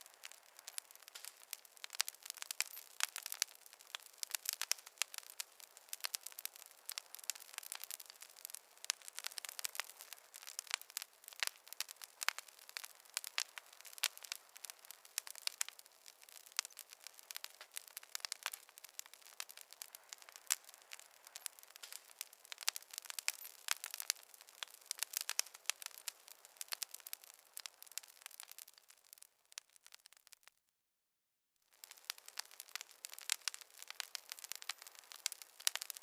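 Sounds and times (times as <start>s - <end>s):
fire crackling in a fireplace: 0.0s - 30.6s, 31.6s - 36.0s.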